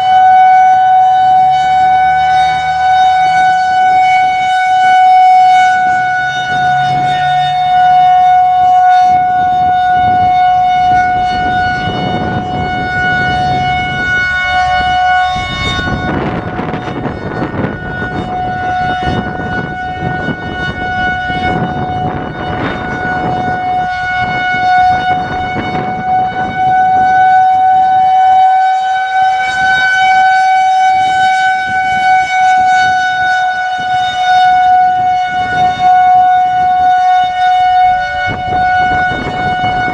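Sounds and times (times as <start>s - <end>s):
rotating warning siren: 0.0s - 39.9s
wind buffeting microphone: 0.1s - 39.9s.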